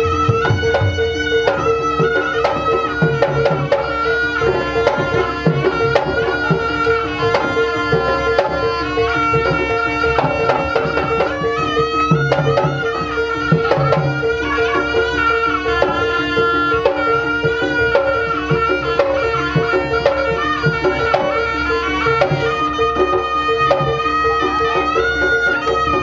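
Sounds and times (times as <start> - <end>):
rapid hand drum strokes: 0.0 - 26.0
ringing gamelan percussion: 0.0 - 26.0
wavering held melody line: 0.0 - 26.0.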